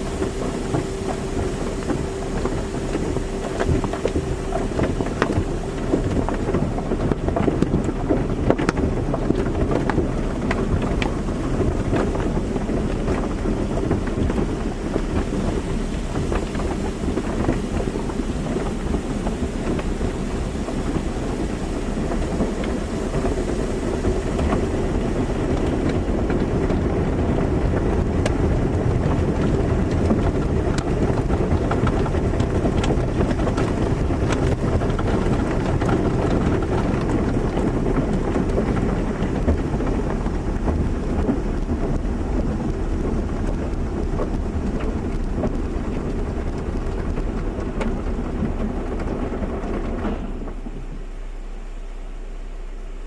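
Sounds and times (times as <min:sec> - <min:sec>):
car wash water spray and machinery: 0:00.0 - 0:53.0
low steady hum: 0:00.0 - 0:53.0.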